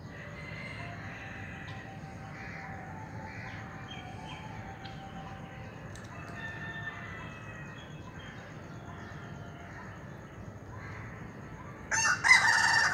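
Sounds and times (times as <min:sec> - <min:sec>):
low background noise: 0:00.0 - 0:12.9.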